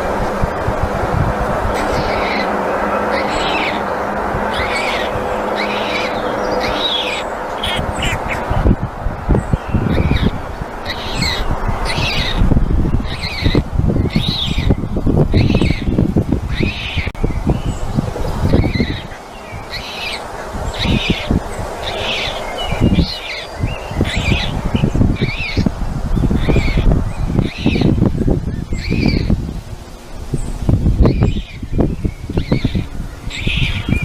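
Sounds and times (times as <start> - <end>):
bird chirping: 1.7 - 29.6, 30.3 - 34.0.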